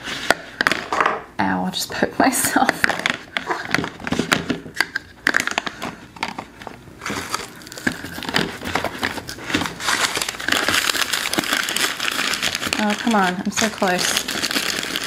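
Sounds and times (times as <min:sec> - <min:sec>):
plastic wrap crinkling: 0:02.8 - 0:15.0.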